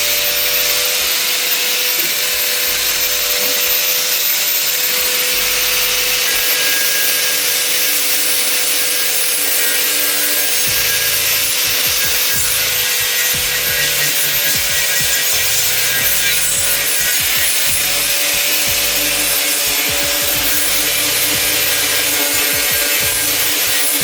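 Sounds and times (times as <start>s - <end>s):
power tool grinding metal: 0.0s - 24.0s.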